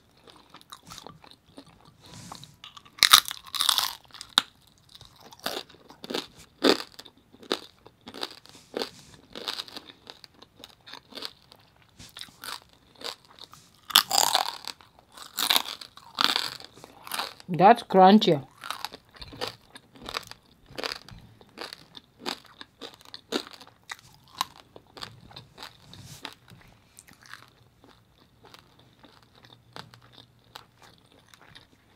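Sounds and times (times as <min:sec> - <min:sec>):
person chewing crunchy food: 0:00.0 - 0:17.5, 0:18.5 - 0:31.9.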